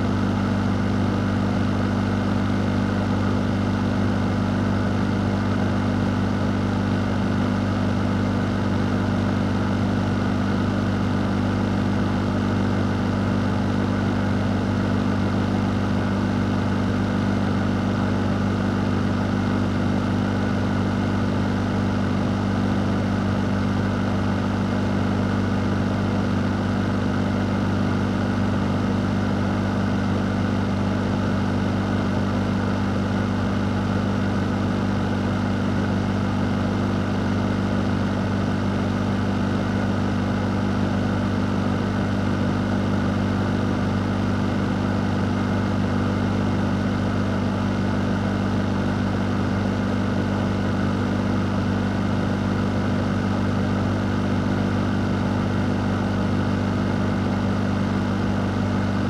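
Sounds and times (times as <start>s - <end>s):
fan running: 0.0s - 59.0s.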